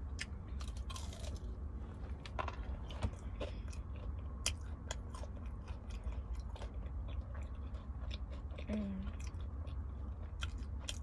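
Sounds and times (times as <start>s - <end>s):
low steady hum: 0.0s - 11.0s
person chewing crunchy food: 0.0s - 11.0s.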